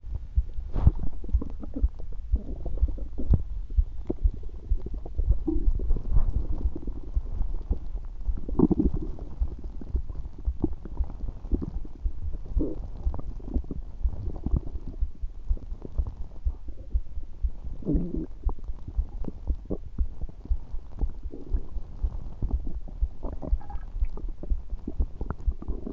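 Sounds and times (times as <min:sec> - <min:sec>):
stomach gurgling: 0:00.0 - 0:25.9.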